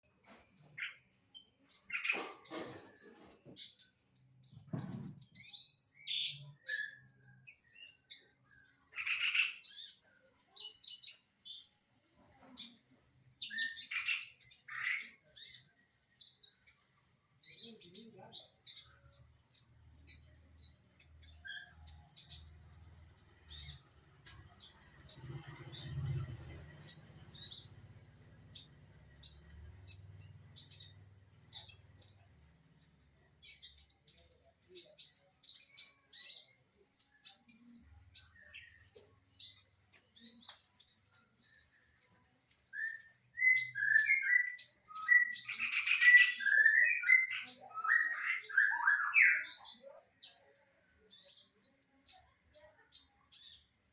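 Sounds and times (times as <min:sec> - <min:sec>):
songbird chirping and warbling: 0:00.0 - 0:53.9.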